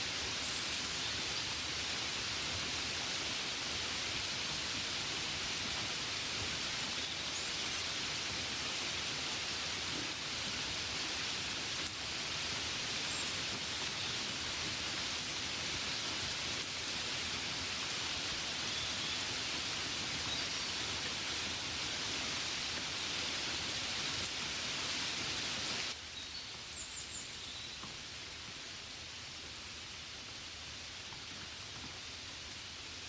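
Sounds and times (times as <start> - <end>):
gentle rain falling: 0.0 - 33.0.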